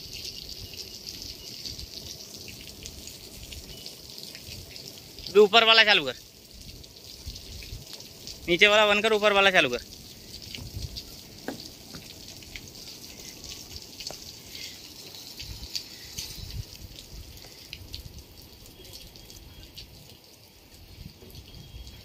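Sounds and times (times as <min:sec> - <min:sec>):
water drips and splashes: 0:00.0 - 0:22.0
water spray hissing: 0:00.0 - 0:22.0.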